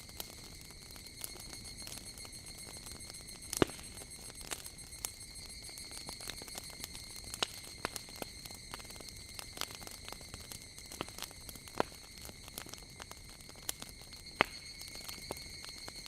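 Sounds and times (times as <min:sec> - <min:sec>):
faint steady hiss: 0:00.0 - 0:16.0
wood fire crackling: 0:00.0 - 0:16.0.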